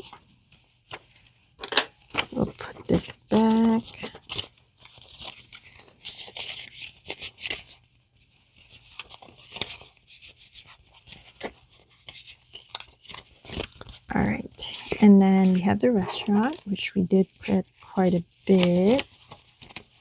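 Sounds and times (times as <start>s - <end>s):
paper and plastic rustling: 0.0s - 20.0s.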